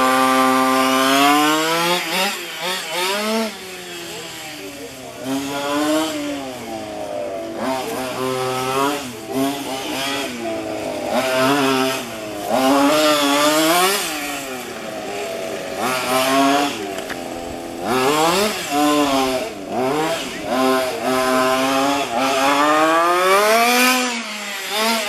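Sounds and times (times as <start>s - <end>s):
small two-stroke engine revving: 0.0s - 25.0s.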